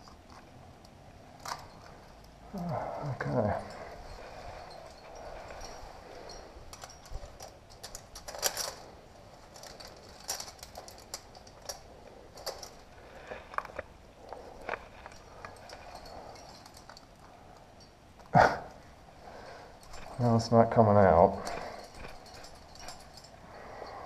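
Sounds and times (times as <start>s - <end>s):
climbing gear clinking: 0.0s - 24.0s.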